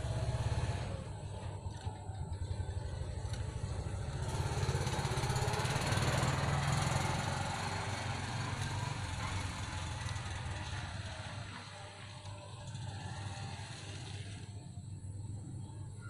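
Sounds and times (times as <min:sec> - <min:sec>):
small engine humming: 0:00.0 - 0:16.0.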